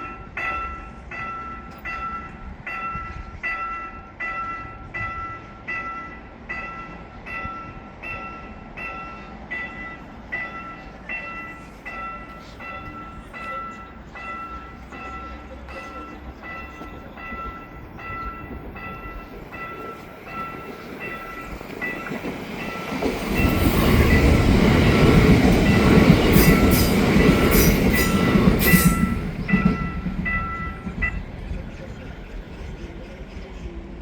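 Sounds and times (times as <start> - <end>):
crossing bell ringing: 0.0 - 31.5
train passing: 0.0 - 34.0.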